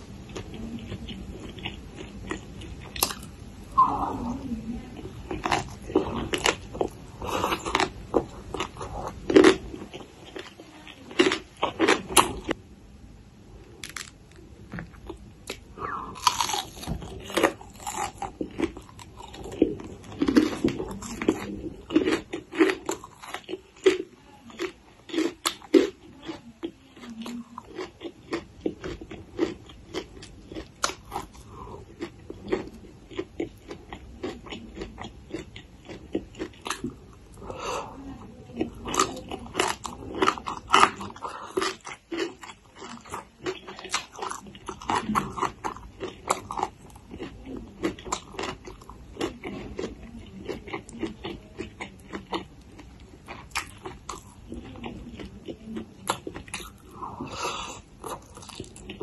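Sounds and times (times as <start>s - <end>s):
chewing crunchy salad: 0.0s - 12.6s, 13.6s - 59.0s.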